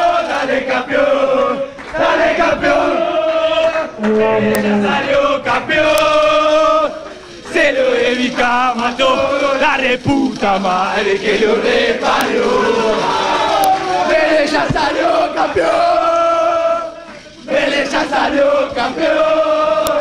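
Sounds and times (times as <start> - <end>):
group chanting a song in unison: 0.0 - 20.0.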